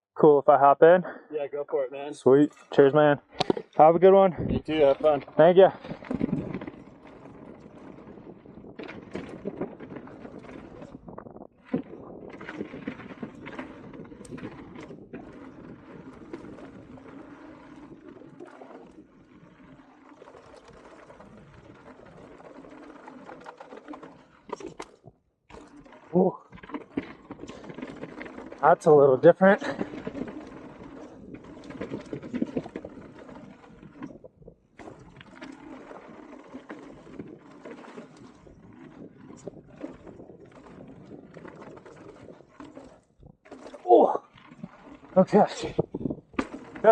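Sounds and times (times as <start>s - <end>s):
tyres rolling on dirt: 2.0s - 46.9s
bike clicks and rattles: 2.2s - 4.0s, 4.6s - 46.9s.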